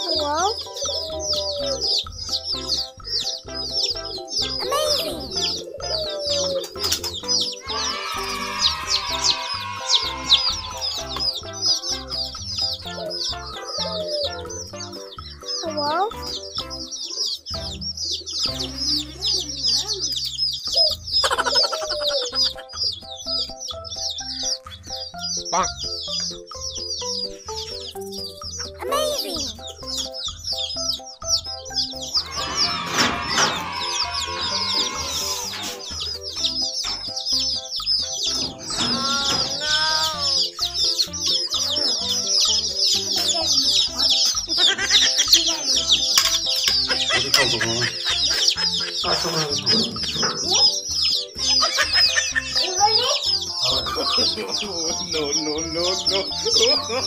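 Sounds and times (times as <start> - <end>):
background music: 0.0 - 57.0
chicks peeping: 0.0 - 57.0.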